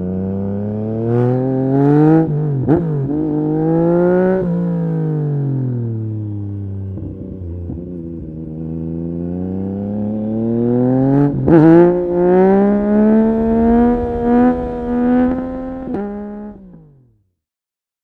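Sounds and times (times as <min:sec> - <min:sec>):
motorcycle engine accelerating: 0:00.0 - 0:17.2.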